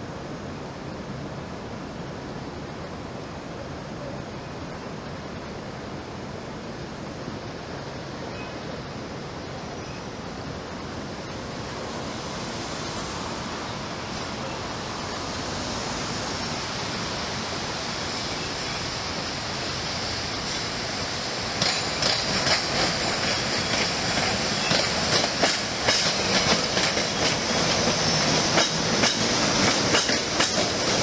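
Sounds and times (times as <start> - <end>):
distant electric train approaching: 4.7 - 31.0
distant city traffic: 5.7 - 31.0.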